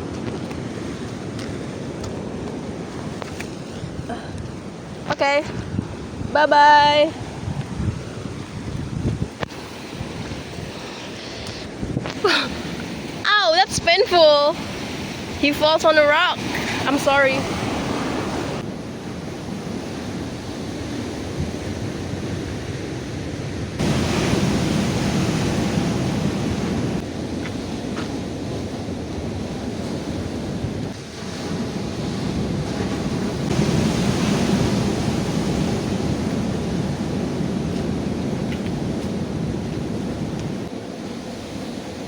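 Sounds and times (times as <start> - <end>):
surf washing onto shore: 0.0 - 42.0
wind buffeting microphone: 0.0 - 42.0.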